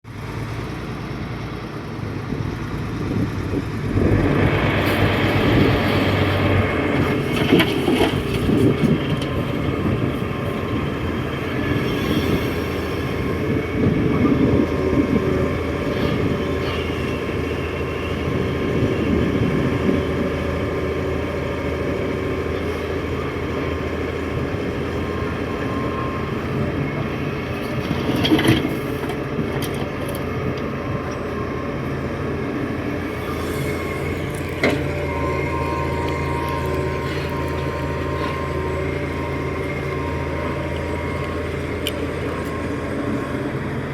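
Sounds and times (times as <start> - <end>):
excavator diesel engine: 0.1 - 43.9.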